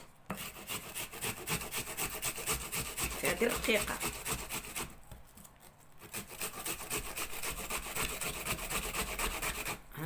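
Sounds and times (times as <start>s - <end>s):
onion grating on a grater: 0.3s - 5.0s, 5.8s - 9.9s.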